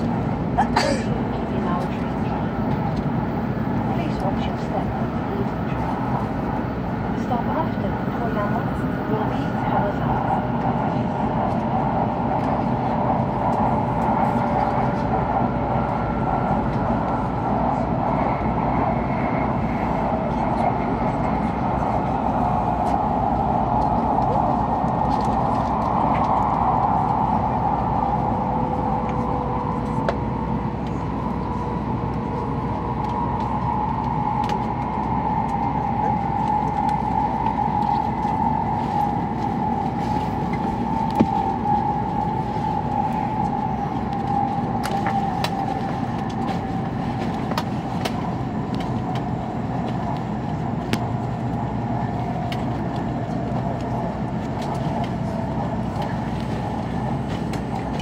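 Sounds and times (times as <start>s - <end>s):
train cabin rumble and rush: 0.0s - 58.0s
falling whine: 8.1s - 58.0s.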